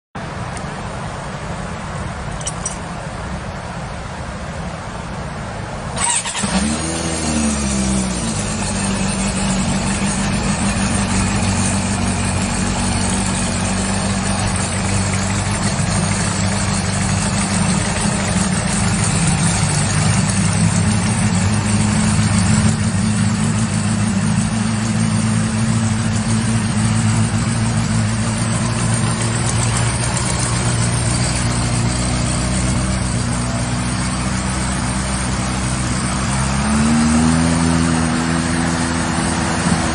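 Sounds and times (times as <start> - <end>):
motorcycle engine starting and idling: 5.9 - 39.9.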